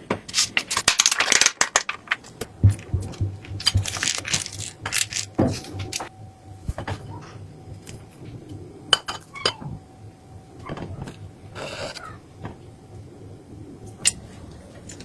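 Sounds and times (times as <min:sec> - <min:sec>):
low steady hum: 0:00.1 - 0:15.0.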